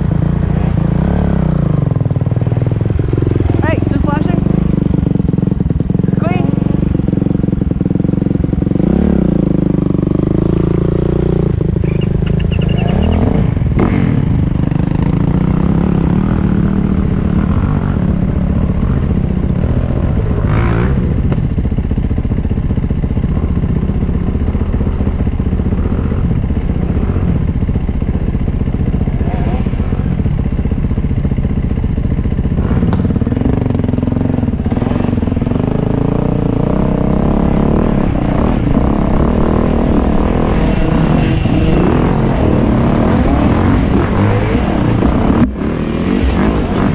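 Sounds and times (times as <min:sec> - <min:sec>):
dirt bike engine revving: 0:00.0 - 0:21.6, 0:22.8 - 0:46.9.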